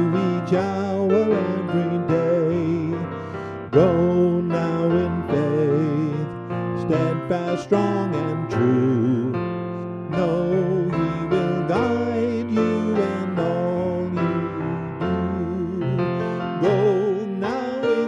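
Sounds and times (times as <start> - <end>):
slow keyboard melody: 0.0 - 18.0.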